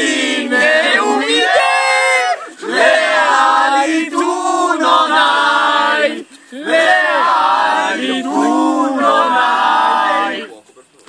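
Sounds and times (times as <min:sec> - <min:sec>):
men singing chant-like: 0:00.0 - 0:10.5.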